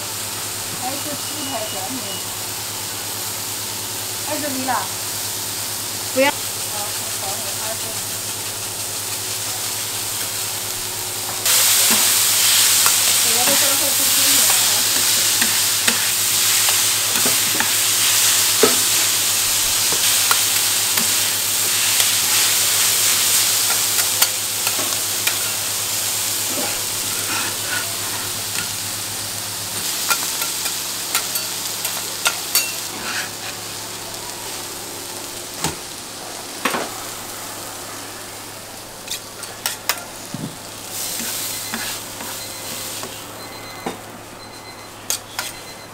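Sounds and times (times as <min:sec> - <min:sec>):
food sizzling on griddle: 0:00.0 - 0:43.5.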